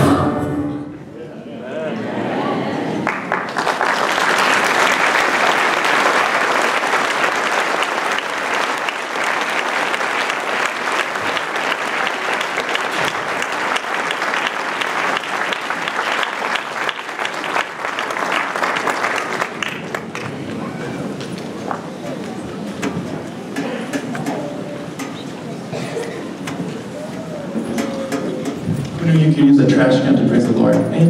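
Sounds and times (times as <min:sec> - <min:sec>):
audience applauding: 0:02.8 - 0:29.4.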